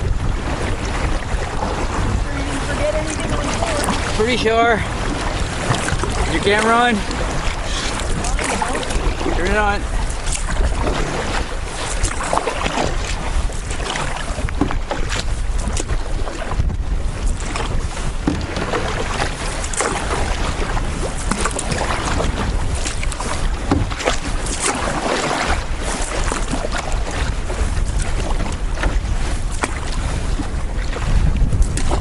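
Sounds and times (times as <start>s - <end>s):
water splashing around canoe: 0.0s - 32.0s
wind buffeting microphone: 0.0s - 32.0s.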